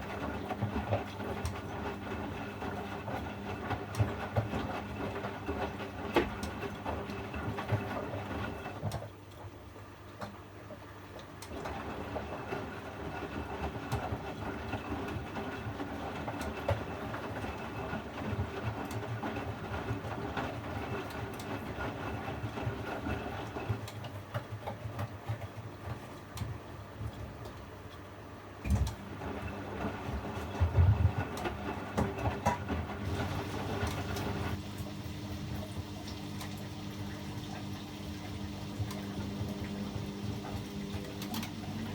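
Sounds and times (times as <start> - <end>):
washing machine rumbling: 0.0 - 41.9.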